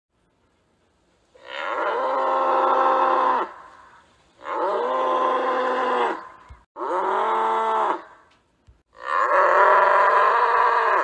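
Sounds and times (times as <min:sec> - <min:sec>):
bull bellowing: 0:01.4 - 0:08.2, 0:08.9 - 0:11.0.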